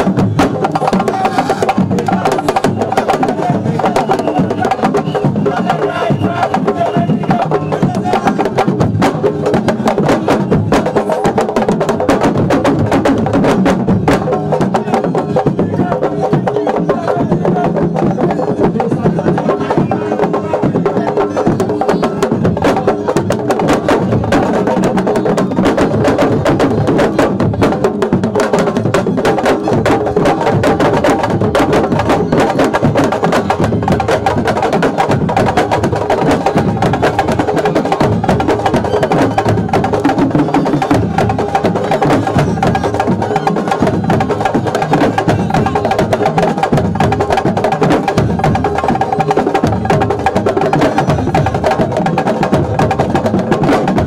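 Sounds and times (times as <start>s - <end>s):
fast drumming: 0.0s - 54.0s.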